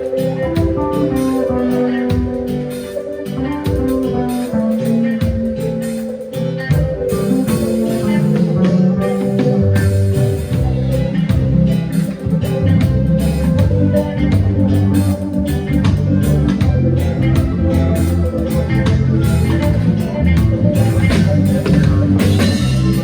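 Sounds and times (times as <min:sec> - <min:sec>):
bass guitar: 0:00.0 - 0:23.0
guitar playing a groove: 0:00.0 - 0:23.0.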